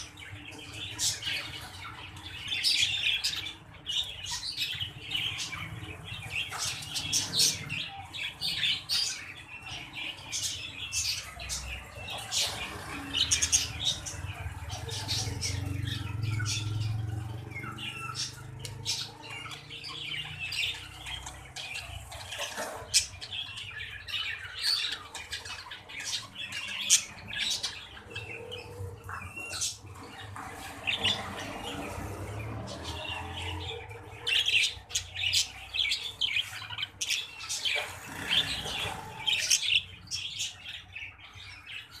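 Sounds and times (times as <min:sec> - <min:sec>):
budgerigars chirping: 0:00.0 - 0:42.0.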